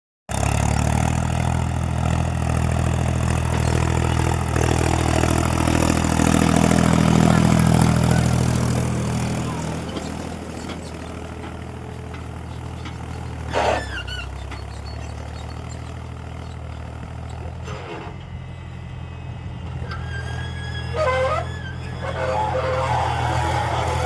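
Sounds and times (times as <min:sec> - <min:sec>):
tractor diesel engine idling: 0:00.3 - 0:24.0.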